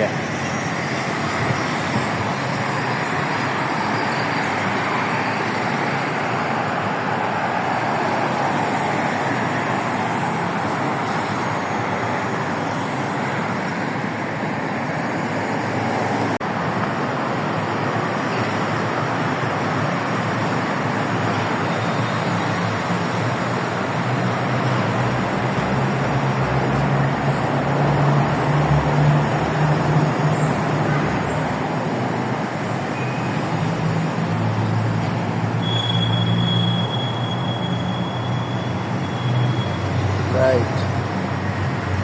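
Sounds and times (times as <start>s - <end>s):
busy highway traffic: 0.0s - 42.0s.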